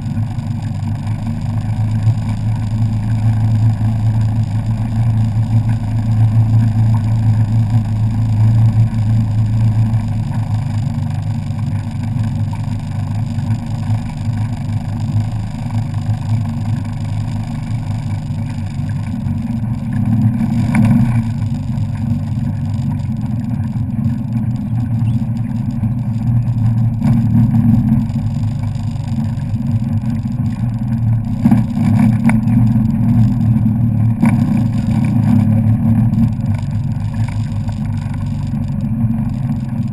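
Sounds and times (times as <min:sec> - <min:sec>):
watercraft engine drone: 0:00.0 - 0:39.9
wind and water noise: 0:00.0 - 0:39.9.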